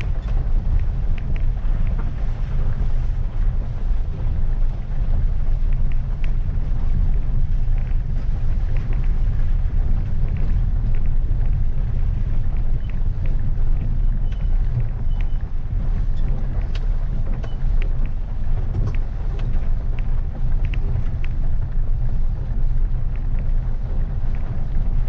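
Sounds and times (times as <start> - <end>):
car engine and tyres rumbling: 0.0 - 25.0
faint ticks: 0.0 - 25.0.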